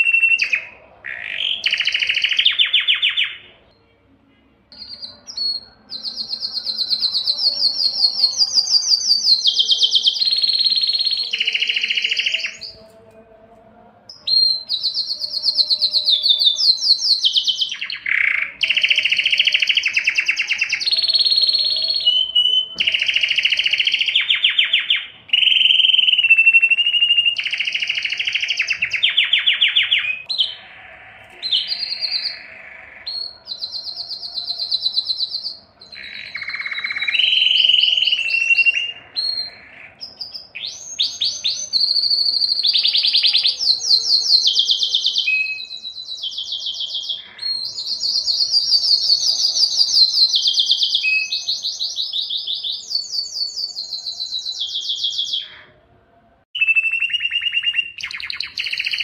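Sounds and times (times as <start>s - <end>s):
canary singing rapid trills: 0.0s - 3.8s, 4.7s - 12.9s, 14.1s - 55.8s, 56.6s - 59.0s.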